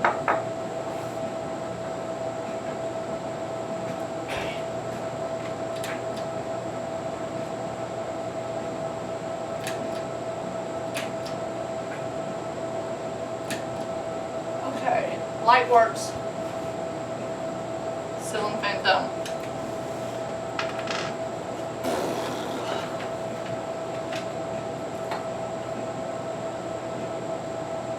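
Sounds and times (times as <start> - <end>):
steady mechanical hum: 0.0 - 27.9.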